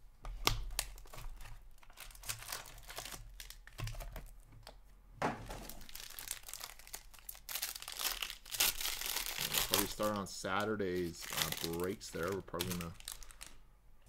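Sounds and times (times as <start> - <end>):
plastic wrapper crinkling: 0.4 - 4.4, 5.4 - 13.6.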